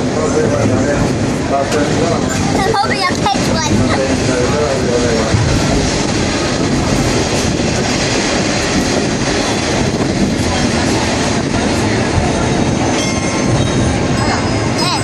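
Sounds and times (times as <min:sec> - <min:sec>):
train wheels rolling on track: 0:00.0 - 0:15.0.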